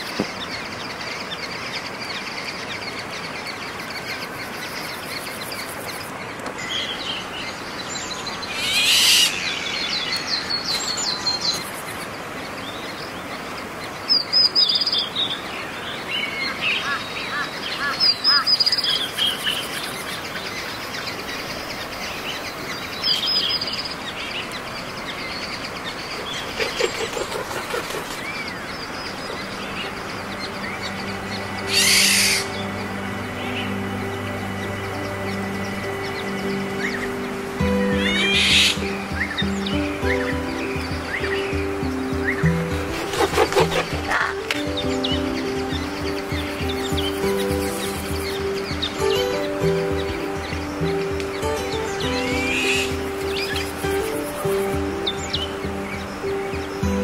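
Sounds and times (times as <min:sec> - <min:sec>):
birds chirping: 0:00.0 - 0:57.0
steady background hiss: 0:00.0 - 0:57.0.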